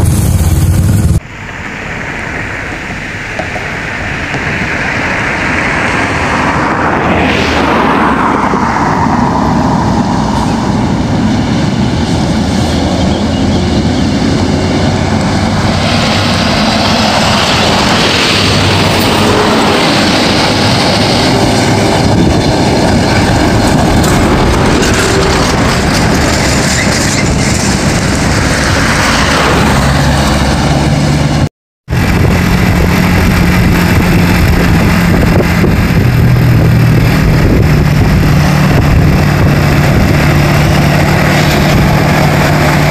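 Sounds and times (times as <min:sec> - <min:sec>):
low engine drone: 0:00.0 - 0:42.9
vehicles passing on road: 0:00.0 - 0:42.9.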